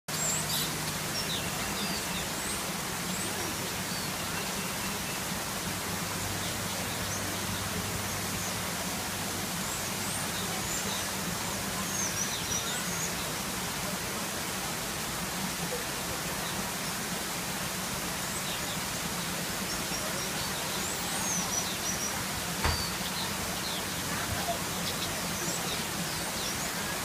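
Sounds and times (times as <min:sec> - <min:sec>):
small birds chirping: 0:00.1 - 0:15.0, 0:15.6 - 0:27.0.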